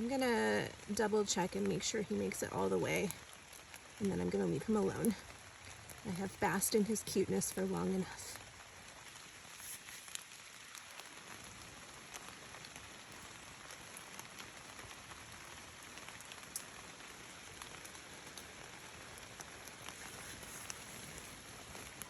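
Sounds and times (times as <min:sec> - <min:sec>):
light rain hissing: 0:00.0 - 0:22.0
raindrops ticking: 0:00.0 - 0:22.0.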